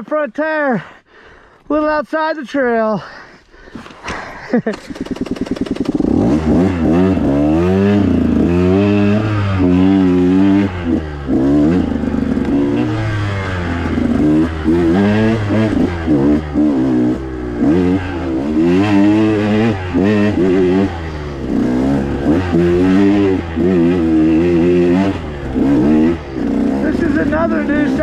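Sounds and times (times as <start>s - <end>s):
dirt bike engine revving: 4.1s - 28.0s.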